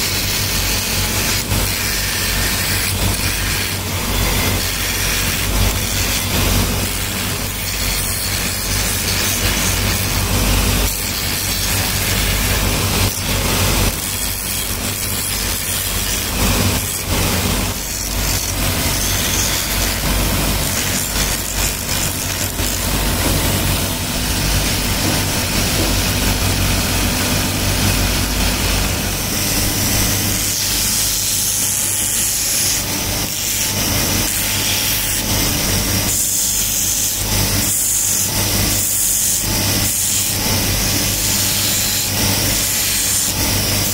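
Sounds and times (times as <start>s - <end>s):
grinding wheel humming: 0.0s - 43.9s
knife blade grinding rasp: 0.0s - 43.9s.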